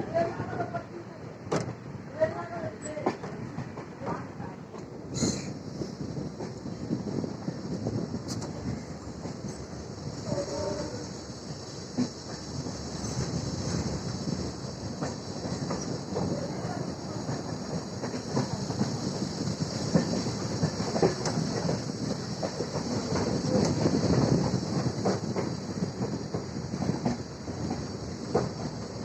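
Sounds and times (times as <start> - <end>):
train rumble: 0.0 - 29.0
train wheels clattering over rail joints: 2.8 - 29.0.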